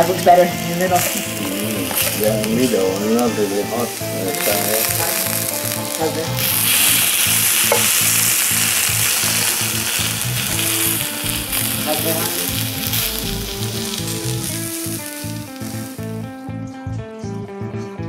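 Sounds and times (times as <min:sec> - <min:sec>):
food sizzling in a pan: 0:00.0 - 0:16.4
background music: 0:00.0 - 0:18.0.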